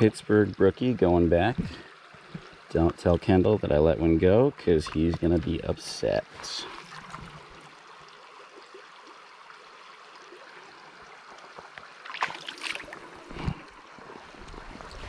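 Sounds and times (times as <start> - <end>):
water splashing: 0.0 - 9.1, 11.5 - 15.0
stream water rushing: 0.0 - 15.0.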